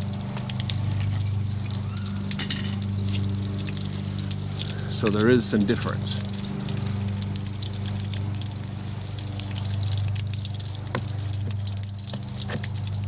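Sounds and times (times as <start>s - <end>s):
low hum: 0.0s - 13.0s
water gushing from a valve: 0.0s - 13.0s.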